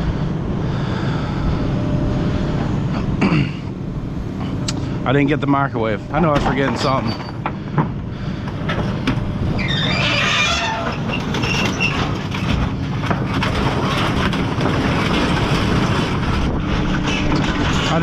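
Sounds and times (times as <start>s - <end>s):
loud mechanical rumble: 0.0s - 18.0s
rattling and clanking: 0.1s - 18.0s.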